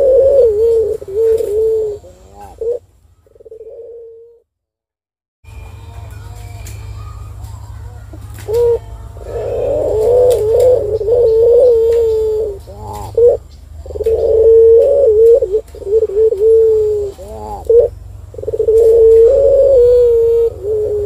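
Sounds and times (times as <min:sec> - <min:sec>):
collared dove cooing: 0:00.0 - 0:04.4, 0:08.4 - 0:21.0.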